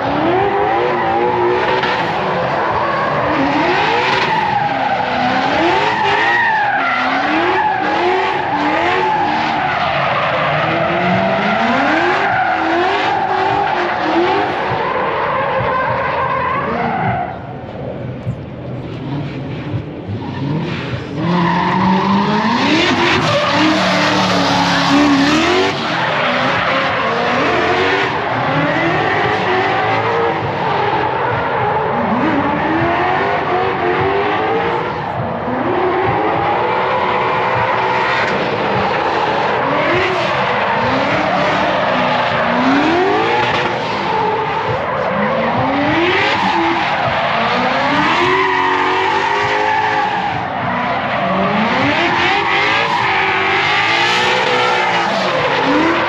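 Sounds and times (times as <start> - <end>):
engines revving hard: 0.0 - 56.0.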